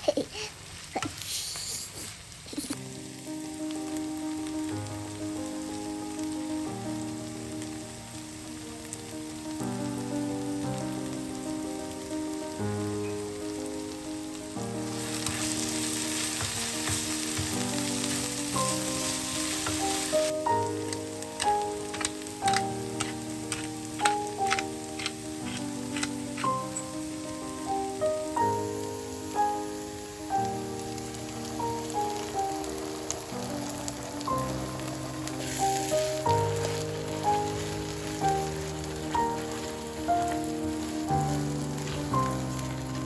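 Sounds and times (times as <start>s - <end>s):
food sizzling in a frying pan: 0.0s - 43.0s
background music of held chords: 2.8s - 43.0s.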